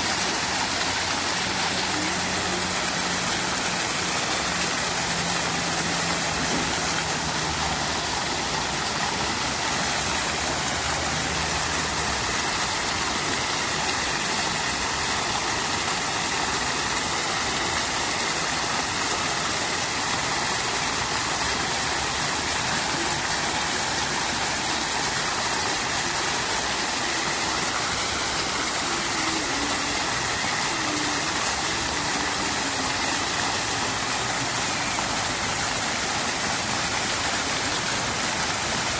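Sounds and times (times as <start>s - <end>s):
fountain water splashing: 0.0s - 38.9s.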